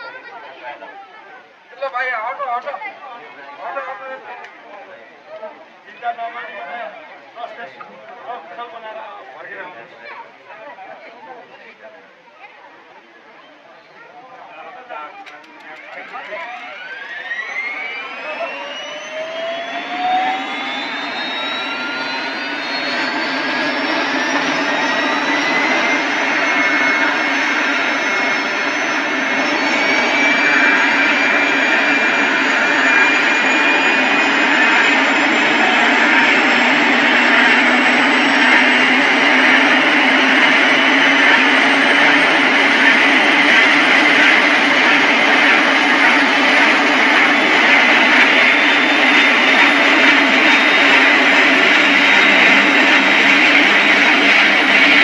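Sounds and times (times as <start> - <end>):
helicopter turbine engine whining: 0.0 - 11.8, 12.4 - 55.0.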